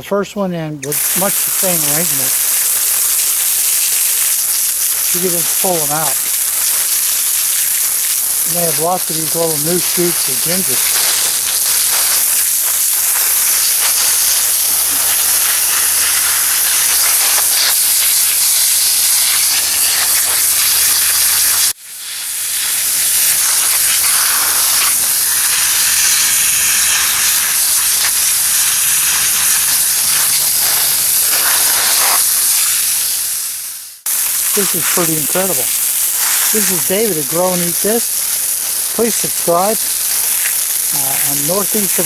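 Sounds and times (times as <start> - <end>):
water spraying: 0.8 - 42.0.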